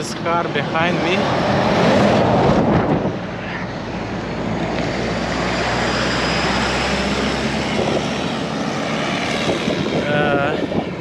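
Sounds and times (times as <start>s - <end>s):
truck engine hum: 0.0s - 11.0s
tyre and wind rush: 0.0s - 11.0s.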